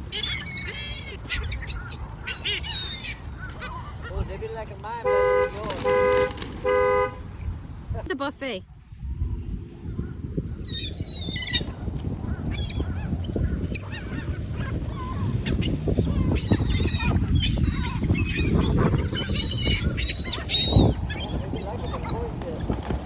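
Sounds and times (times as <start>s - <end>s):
seagulls squawking: 0.0s - 7.1s, 9.9s - 23.0s.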